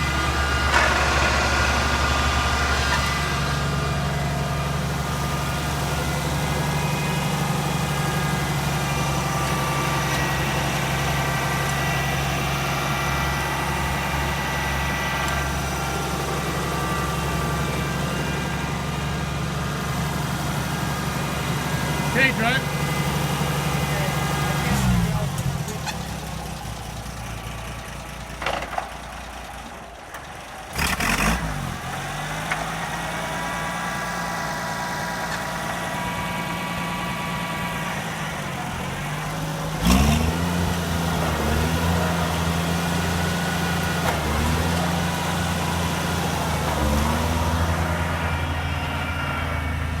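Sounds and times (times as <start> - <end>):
tractor engine idling and revving: 0.0 - 50.0.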